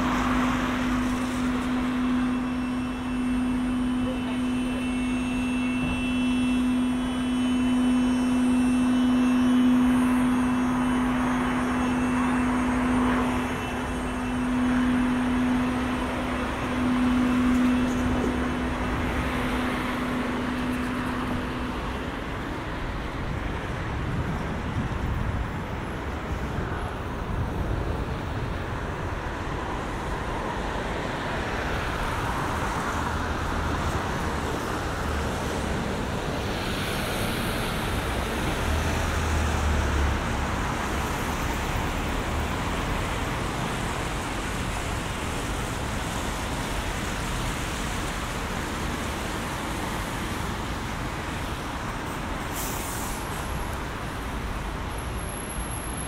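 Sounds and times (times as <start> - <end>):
bus engine humming: 0.0 - 56.0
traffic on wet road: 0.0 - 56.0.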